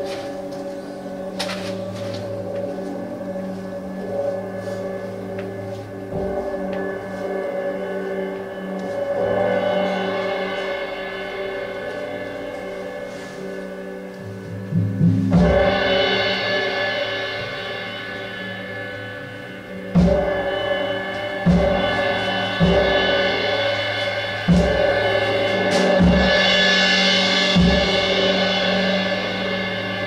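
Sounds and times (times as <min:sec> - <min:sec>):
ringing percussion hits: 0:00.0 - 0:30.0.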